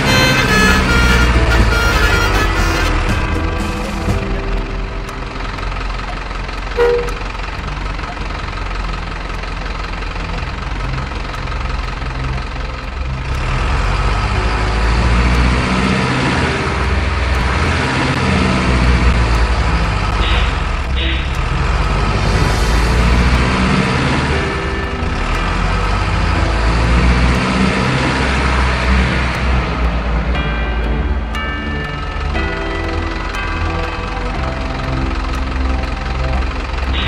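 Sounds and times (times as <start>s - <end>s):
simulated diesel truck engine: 0.0s - 37.0s.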